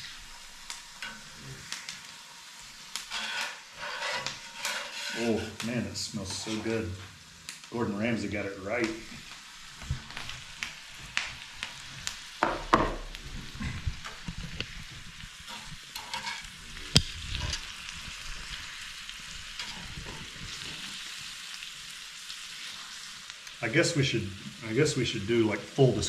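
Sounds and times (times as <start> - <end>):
steaks sizzling in a pan: 0.0 - 26.0.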